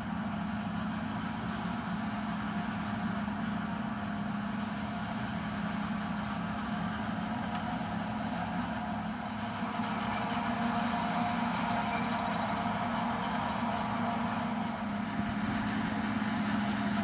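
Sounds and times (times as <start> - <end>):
diesel engines running: 0.0 - 17.0.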